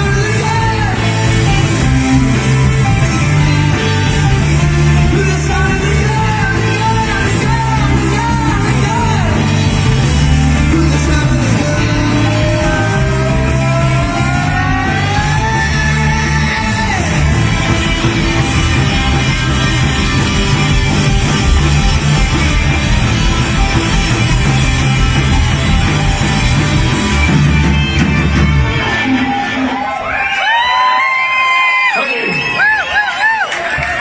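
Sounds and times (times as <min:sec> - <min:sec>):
loud rock music with guitar: 0:00.0 - 0:31.7.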